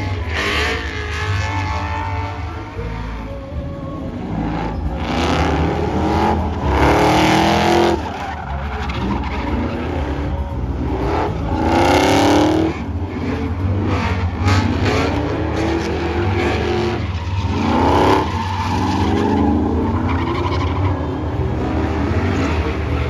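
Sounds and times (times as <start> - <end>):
truck engine revving: 0.0 - 23.0
tyres squealing on asphalt: 0.0 - 23.0.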